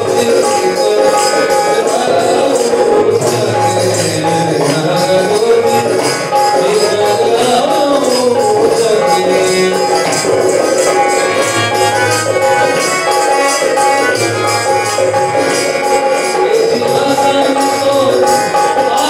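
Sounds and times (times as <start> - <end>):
drum beat: 0.0 - 19.0
harmonium melody: 0.0 - 19.0
jingling percussion: 0.0 - 19.0.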